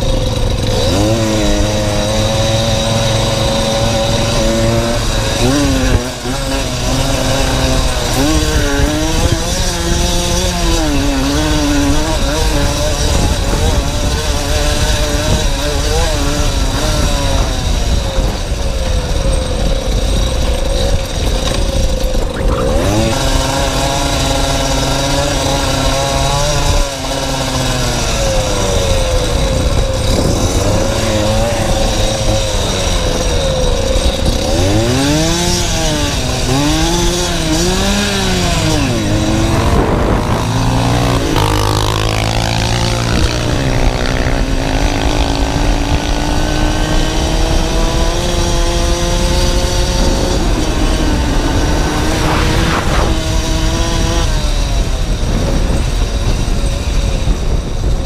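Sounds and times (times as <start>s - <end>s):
small motorcycle engine revving: 0.0s - 58.0s
wind rumbling on microphone: 0.0s - 58.0s.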